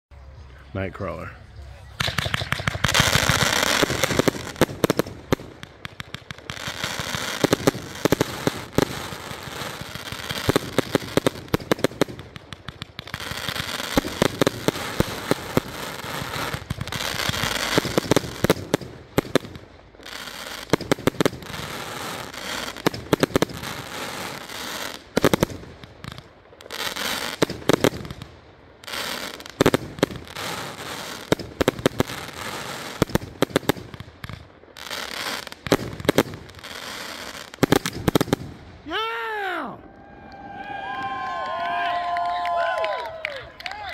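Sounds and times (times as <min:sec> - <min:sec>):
firework bangs: 0:01.9 - 0:38.9
crackling hiss of firework sparks: 0:02.0 - 0:38.7.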